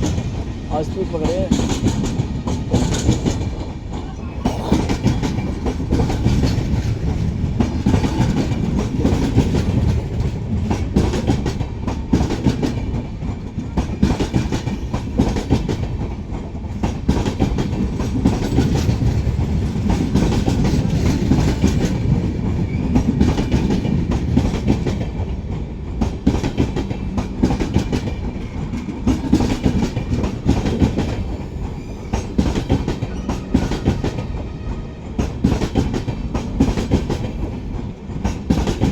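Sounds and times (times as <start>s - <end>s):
train coaches rumbling: 0.0s - 38.9s.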